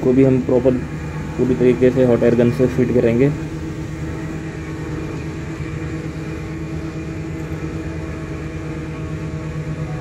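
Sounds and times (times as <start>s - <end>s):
hot air gun humming: 0.0s - 10.0s.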